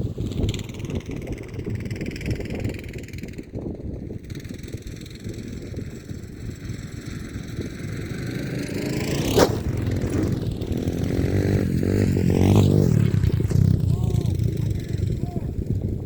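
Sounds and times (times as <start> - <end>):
small off-road engine: 0.0 - 16.0.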